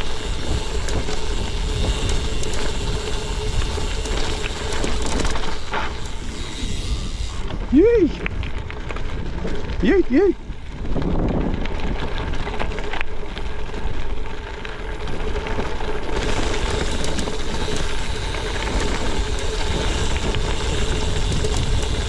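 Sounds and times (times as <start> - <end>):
wind on microphone: 0.0 - 12.9, 16.2 - 22.0
bike rattling: 0.0 - 22.0
bike tyres crunching on gravel: 0.0 - 22.0.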